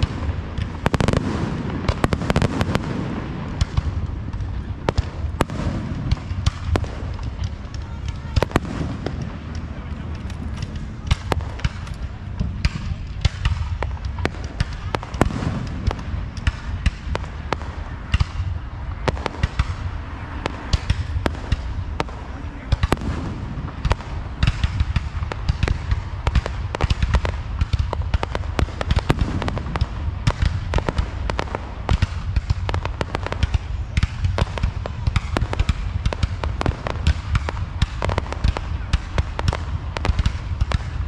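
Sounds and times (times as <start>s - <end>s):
fireworks bangs and crackling: 0.0s - 41.0s.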